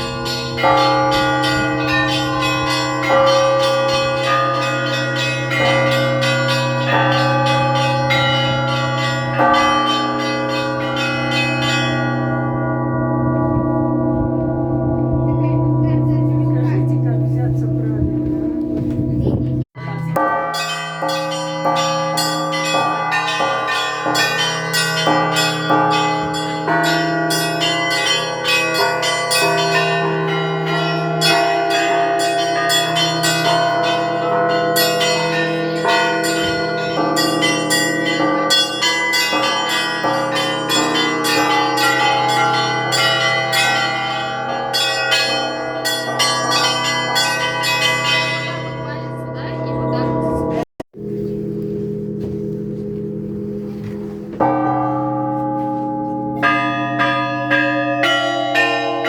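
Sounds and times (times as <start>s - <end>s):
church bells pealing: 0.0s - 59.0s.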